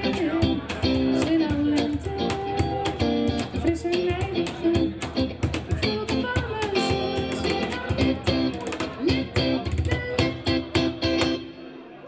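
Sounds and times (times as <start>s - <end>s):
cajon beat: 0.0s - 11.5s
electric guitar playing: 0.0s - 11.6s.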